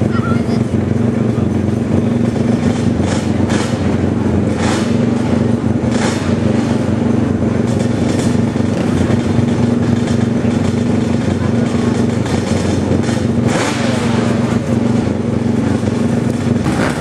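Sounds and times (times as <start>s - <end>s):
quad engines running: 0.0s - 17.0s.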